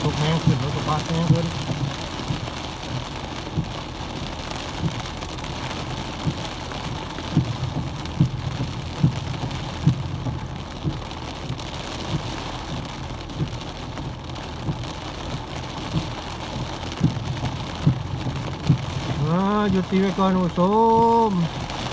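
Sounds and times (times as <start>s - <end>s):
heavy rain on car roof: 0.0s - 21.9s
windshield wipers thudding: 0.0s - 21.9s.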